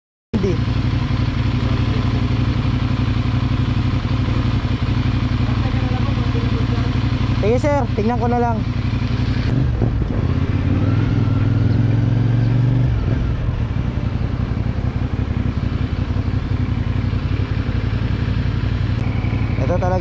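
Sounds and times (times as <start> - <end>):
motorcycle engine running: 0.4 - 20.0.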